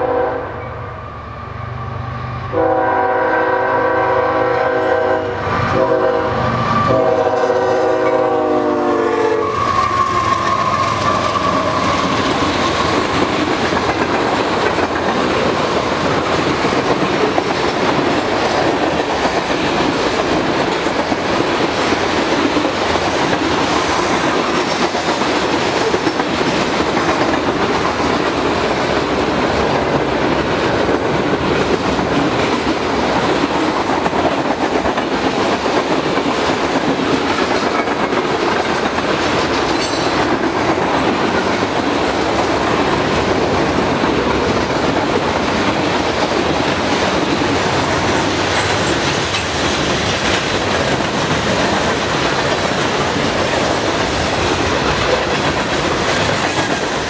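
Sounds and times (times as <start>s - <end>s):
train wheels rolling on rails: 1.3s - 57.0s.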